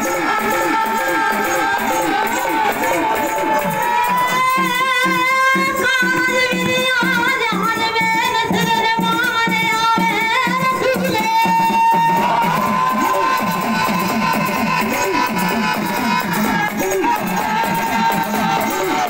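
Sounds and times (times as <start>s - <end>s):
man singing through microphones: 0.0s - 14.1s, 14.7s - 19.0s
steady drum beat: 0.0s - 19.0s.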